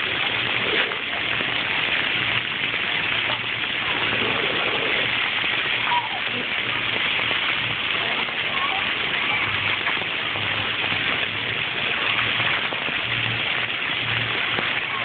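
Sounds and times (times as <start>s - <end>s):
water jets splashing on concrete: 0.0s - 15.0s.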